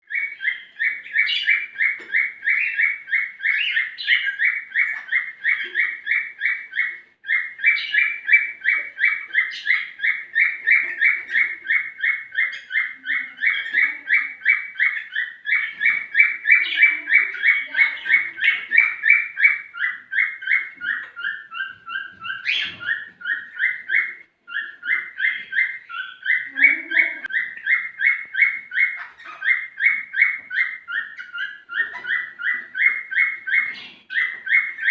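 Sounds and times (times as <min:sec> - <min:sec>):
cockatiel chirping song: 0:00.0 - 0:34.9.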